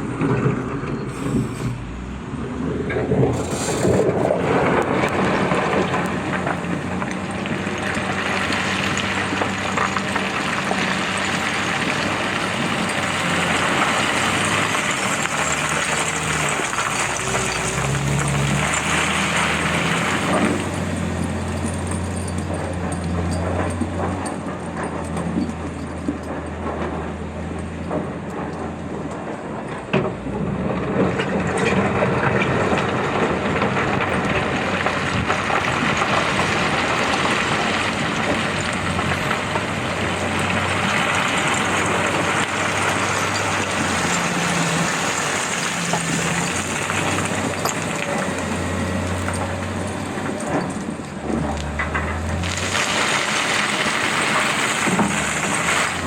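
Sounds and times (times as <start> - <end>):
diesel machine engine hum: 0.0 - 56.0.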